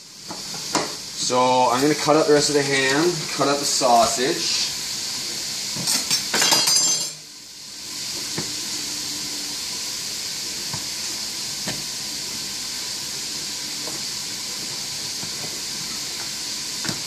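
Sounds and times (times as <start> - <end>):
vegetables sizzling in pot: 0.0 - 17.0.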